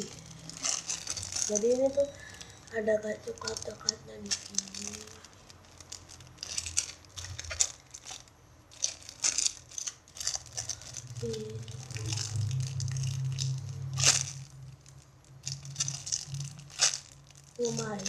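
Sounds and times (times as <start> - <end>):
plastic packaging crinkling: 0.0 - 18.0
steady low hum: 0.0 - 18.0.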